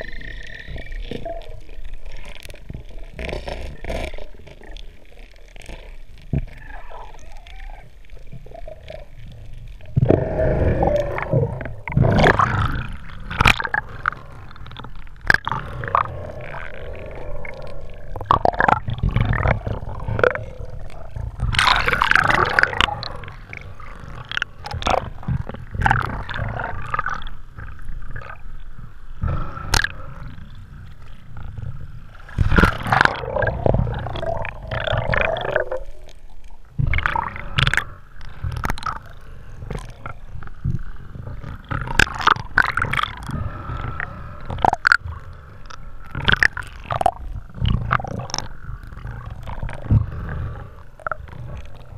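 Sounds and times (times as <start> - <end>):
underwater gurgling and rumbling: 0.0 - 51.9.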